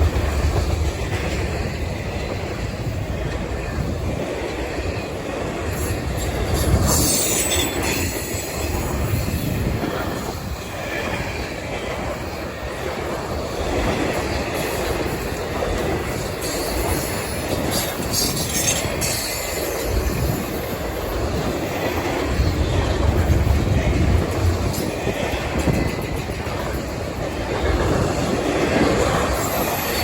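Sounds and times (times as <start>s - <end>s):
freight train rumbling: 0.0s - 30.0s
wheels clacking over rail joints: 0.0s - 30.0s.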